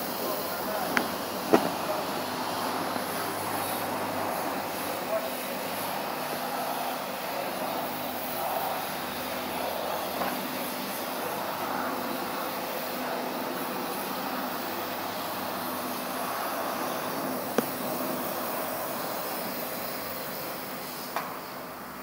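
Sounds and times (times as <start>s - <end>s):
car wash equipment hum: 0.0s - 22.0s
pressure washer pump: 0.0s - 22.0s.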